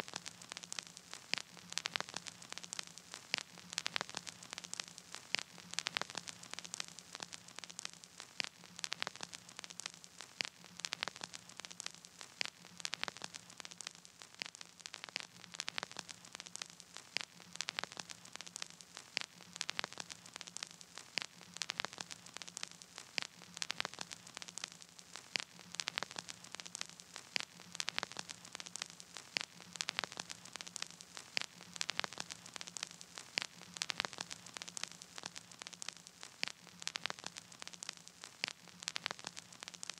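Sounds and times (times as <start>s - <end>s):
crackling static hiss: 0.0s - 39.9s.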